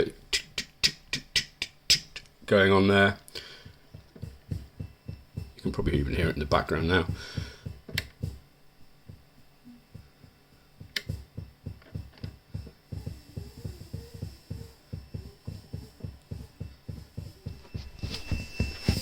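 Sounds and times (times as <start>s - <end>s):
rhythmic low pulses: 0.0s - 19.0s.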